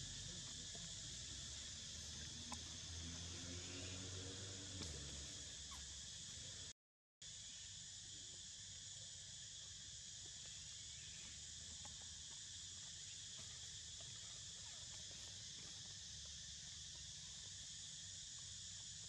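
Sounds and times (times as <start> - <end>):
high-pitched insect hum: 0.0 - 19.0.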